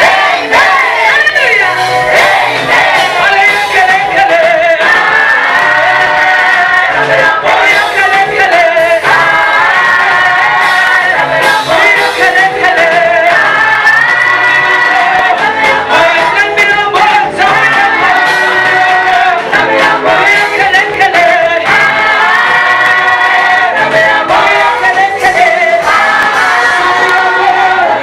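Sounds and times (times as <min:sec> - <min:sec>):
choir singing in harmony: 0:00.0 - 0:28.0.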